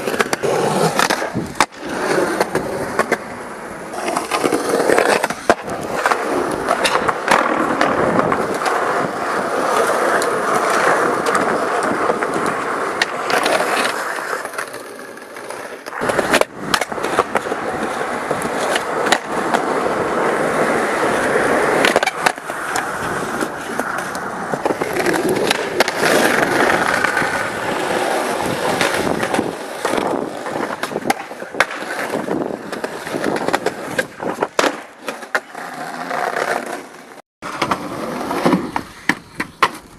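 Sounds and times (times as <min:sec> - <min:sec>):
skateboard pops and landings: 0:00.0 - 0:03.3, 0:03.9 - 0:19.8, 0:20.7 - 0:39.9
skateboard wheels rolling on concrete: 0:00.0 - 0:39.9.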